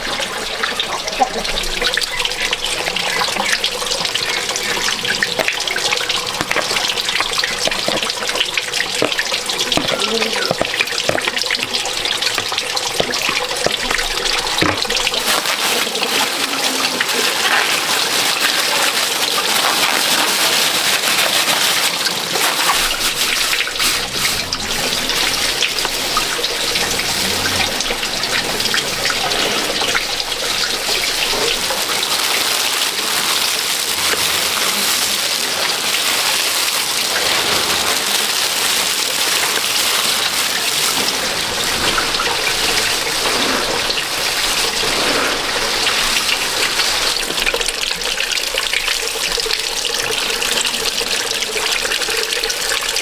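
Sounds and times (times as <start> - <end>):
small water drips: 0.0 - 53.0
water running and splashing: 0.0 - 53.0.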